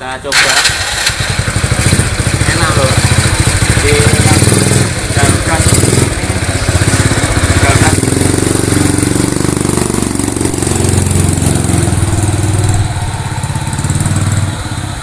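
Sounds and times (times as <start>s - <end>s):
motorcycle engine pulling away: 0.3s - 15.0s.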